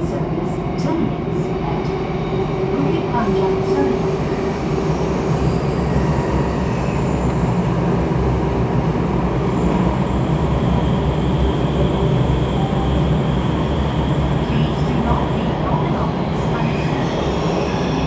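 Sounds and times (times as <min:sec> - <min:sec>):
light rail car rumble: 0:00.0 - 0:18.0.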